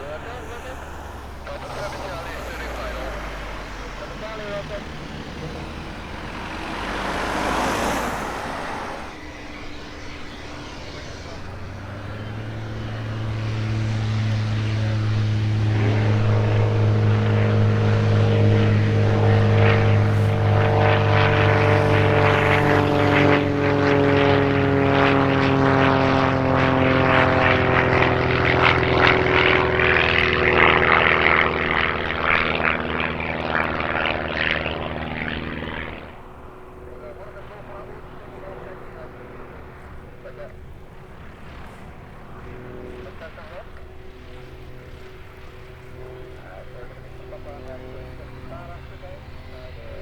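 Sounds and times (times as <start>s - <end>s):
propeller aircraft passing: 0.0s - 50.0s.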